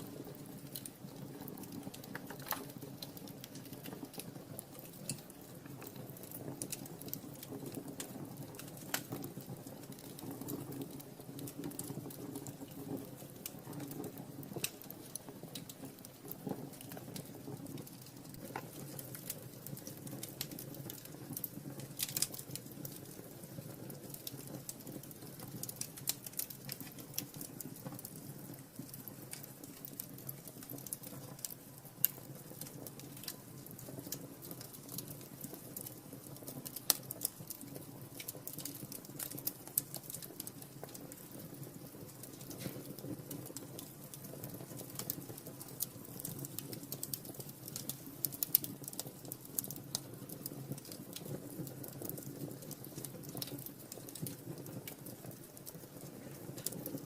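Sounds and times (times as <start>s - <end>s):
fire crackling and snapping: 0.0s - 57.0s
loud fire pops: 0.0s - 57.0s
rumble of flames: 0.0s - 57.0s.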